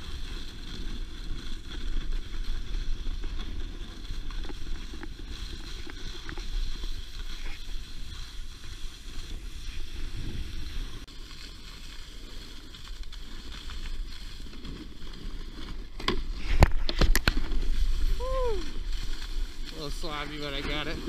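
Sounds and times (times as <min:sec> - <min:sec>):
snowboard scraping over snow: 0:00.0 - 0:21.0.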